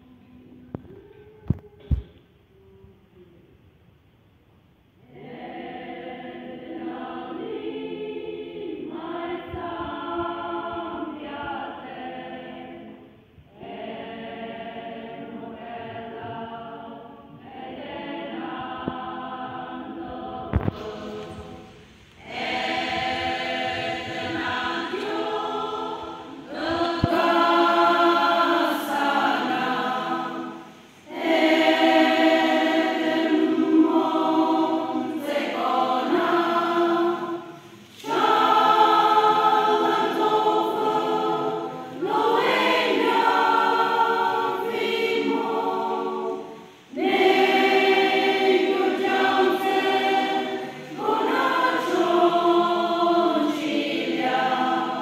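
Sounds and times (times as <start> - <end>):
women's choir singing: 5.0 - 55.0.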